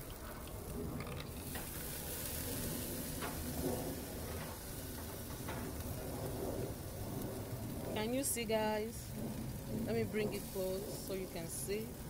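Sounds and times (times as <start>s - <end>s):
fish sizzling on a grill: 0.0s - 12.0s
grill basket set on metal grates: 0.0s - 12.0s.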